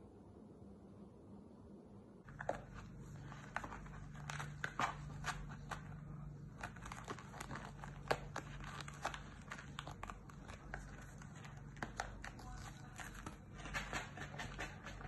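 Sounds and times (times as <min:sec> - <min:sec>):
low steady hum: 0:00.0 - 0:15.0
kitten clawing a slipper: 0:02.3 - 0:15.0.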